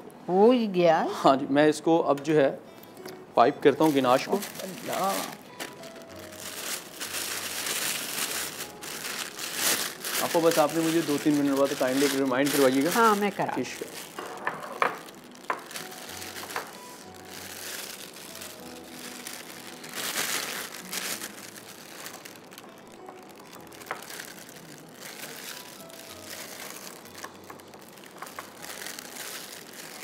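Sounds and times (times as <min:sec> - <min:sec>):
faint background music: 0:00.0 - 0:30.0
plastic piping bag crinkling: 0:03.7 - 0:30.0.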